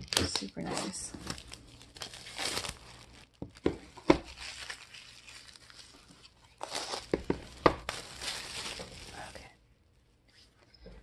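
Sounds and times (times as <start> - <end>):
plastic sleeve crinkling: 0.0 - 9.6.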